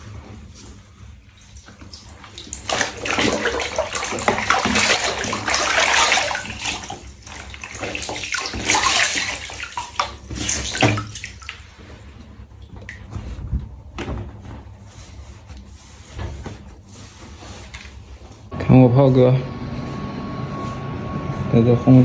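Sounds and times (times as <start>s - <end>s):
water spraying and splashing in bath: 0.0s - 18.5s.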